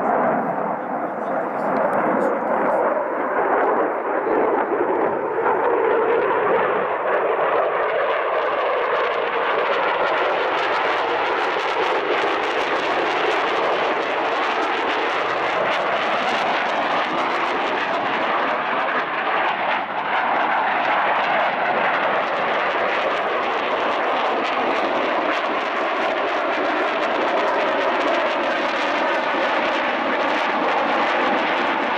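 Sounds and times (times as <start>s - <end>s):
jet engine roar: 0.0s - 31.9s.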